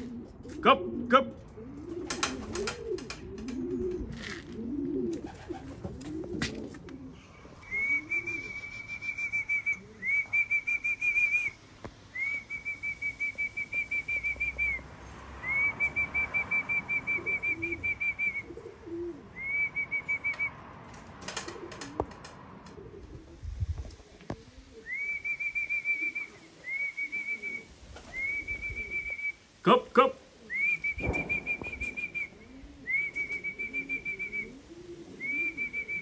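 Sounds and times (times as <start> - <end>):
pigeons cooing: 0.0 - 29.6, 30.2 - 36.0.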